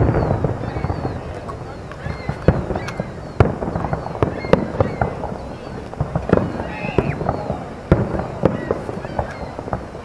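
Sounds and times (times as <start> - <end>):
fireworks bursts rumbling: 0.0 - 10.0
sharp firework bangs: 0.0 - 10.0.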